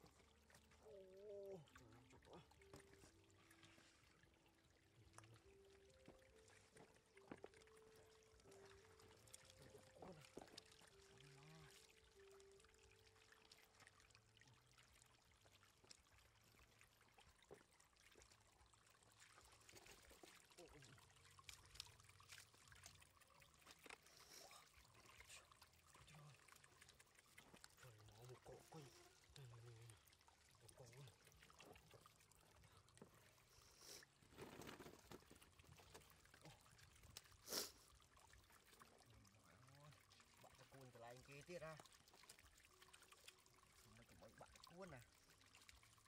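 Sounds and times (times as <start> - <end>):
faint water trickle: 0.0 - 46.0.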